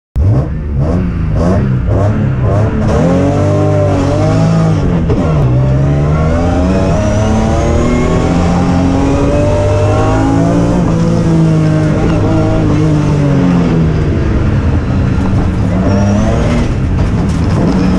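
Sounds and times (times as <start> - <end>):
car engine accelerating hard: 0.2 - 17.9.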